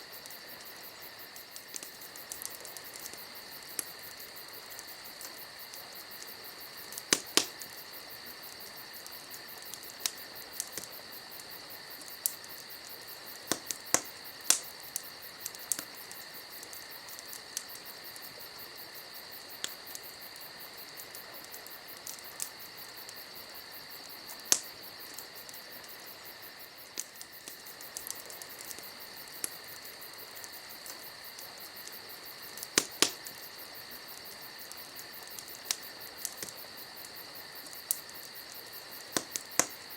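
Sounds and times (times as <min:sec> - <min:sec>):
fire pops: 0:00.0 - 0:18.5, 0:19.3 - 0:23.2, 0:23.8 - 0:39.9
campfire crackling: 0:00.0 - 0:39.9
night insects trilling: 0:00.0 - 0:39.9.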